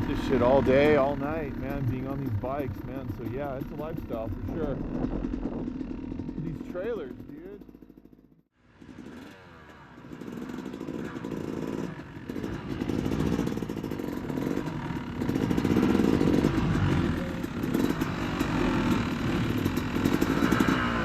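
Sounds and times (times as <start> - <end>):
dirt bike engines running: 0.0 - 21.0.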